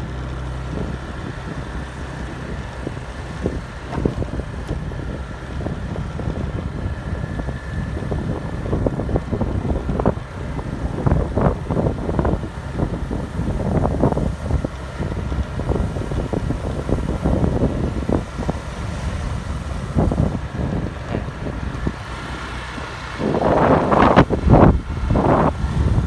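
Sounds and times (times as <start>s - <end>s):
vehicle running noise: 0.0s - 26.0s
wind buffeting microphone: 0.0s - 26.0s.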